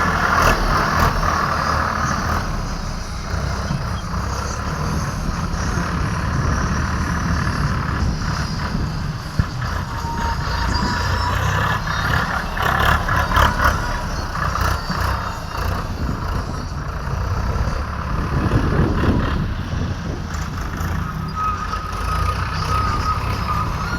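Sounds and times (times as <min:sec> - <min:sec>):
tractor diesel engine rumbling: 0:00.0 - 0:23.9.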